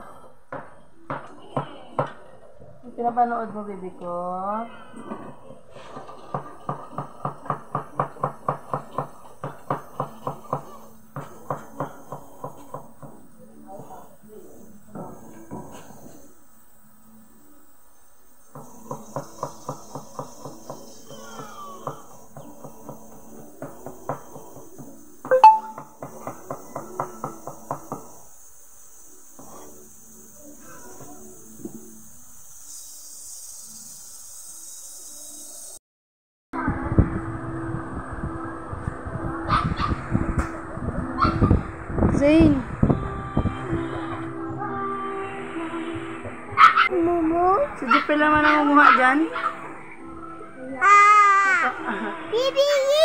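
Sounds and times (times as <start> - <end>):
steady high hiss: 7.3 - 35.8, 36.6 - 53.0.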